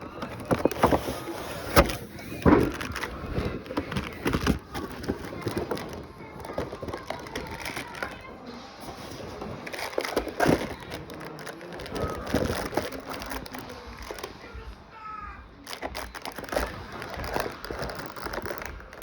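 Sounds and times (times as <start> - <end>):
packaging rustling and crinkling: 0.0 - 14.7, 15.6 - 19.0.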